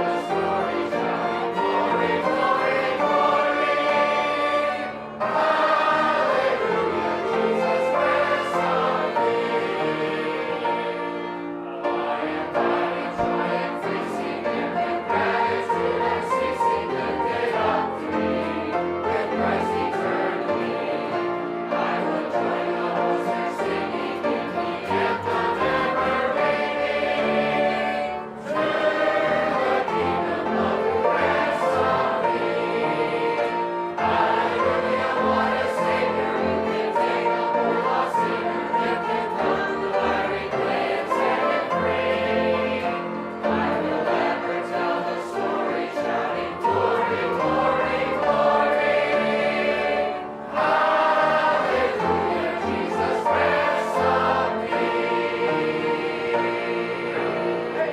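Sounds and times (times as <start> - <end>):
congregation singing a hymn: 0.0 - 57.9.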